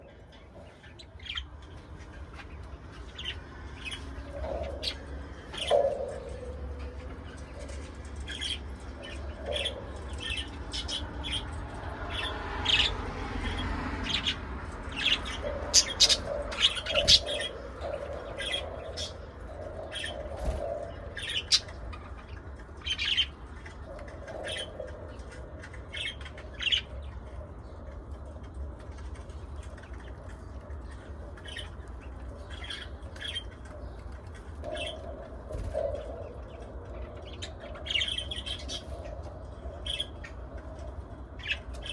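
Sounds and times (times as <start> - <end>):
pet birds chirping and squawking: 0.0 - 41.9
steady low hum: 0.0 - 41.9.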